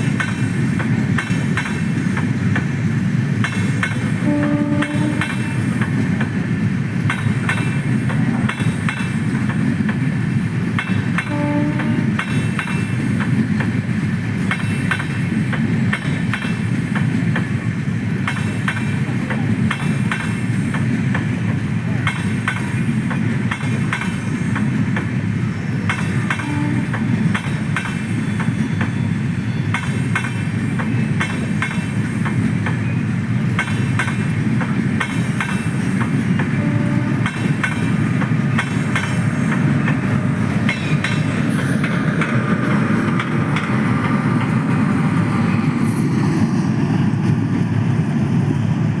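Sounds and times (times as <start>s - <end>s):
train coaches rumbling past: 0.0s - 49.0s.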